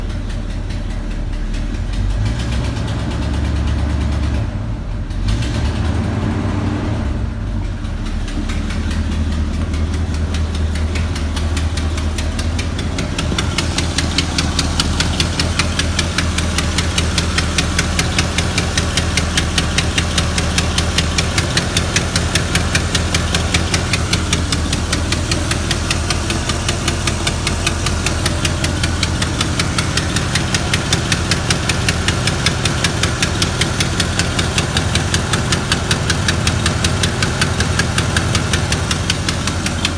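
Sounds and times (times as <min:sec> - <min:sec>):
engine idling: 0:00.0 - 0:39.9
fast even engine ticking: 0:00.0 - 0:39.9.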